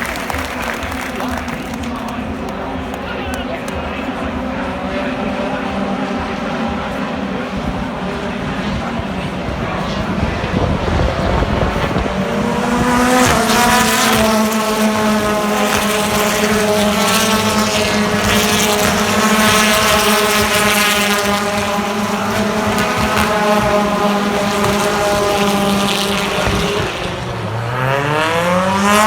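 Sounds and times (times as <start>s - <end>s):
racing car engine: 0.0s - 29.0s.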